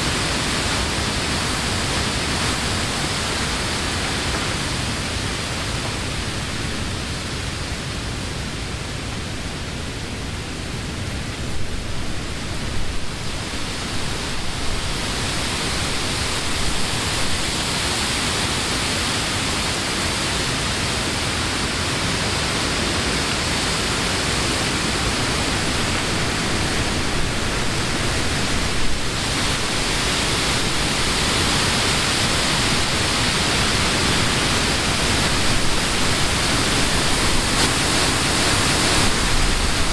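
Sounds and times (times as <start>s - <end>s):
wind rustling leaves: 0.0s - 39.9s.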